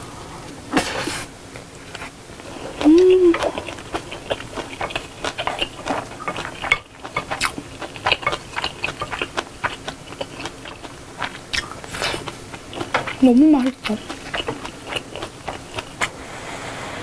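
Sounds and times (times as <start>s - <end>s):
person chewing food: 1.9s - 16.1s.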